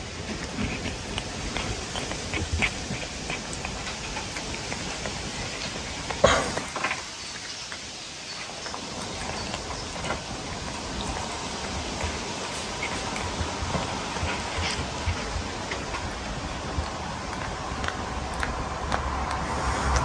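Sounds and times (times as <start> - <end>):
cat chewing and licking: 0.0 - 20.0.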